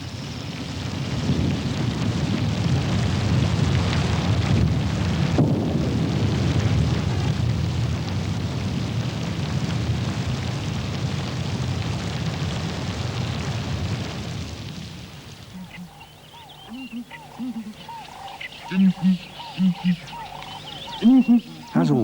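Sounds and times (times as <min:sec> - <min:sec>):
rolling thunder: 0:00.0 - 0:21.9
heavy rain: 0:00.0 - 0:22.0.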